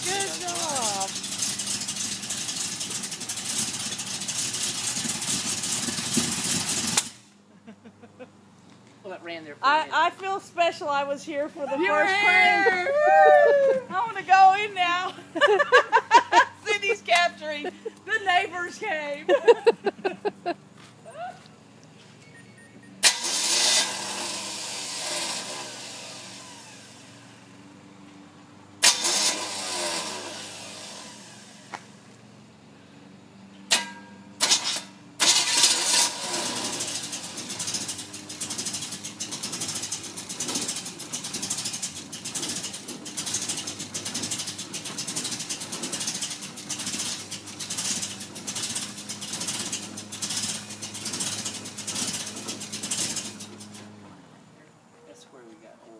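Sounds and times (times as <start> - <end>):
car engine starting and running: 0.0 - 54.9.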